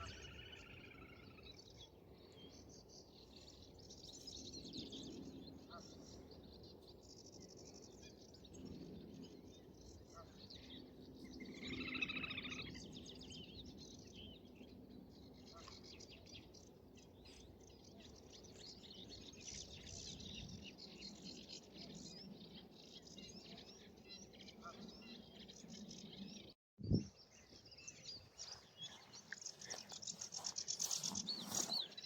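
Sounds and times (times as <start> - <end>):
small birds chirping and trilling: 0.0 - 32.0.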